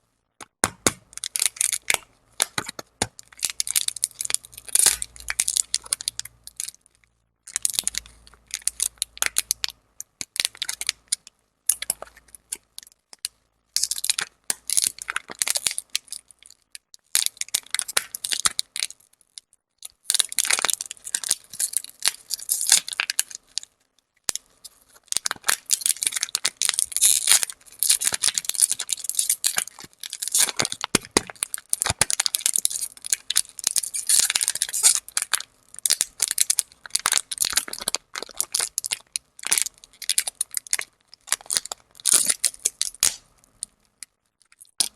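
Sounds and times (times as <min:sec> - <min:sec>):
lollipop wrapper crinkling: 0:00.9 - 0:44.9.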